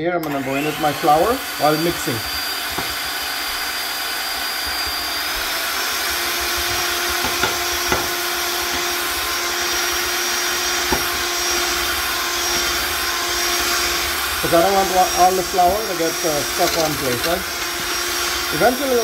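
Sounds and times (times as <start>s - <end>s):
electric mixer running: 0.0s - 19.0s.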